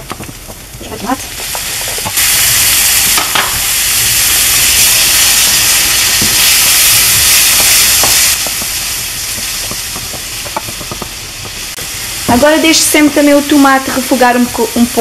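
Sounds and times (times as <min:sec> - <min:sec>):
tomato sizzling in hot oil: 0:00.0 - 0:15.0.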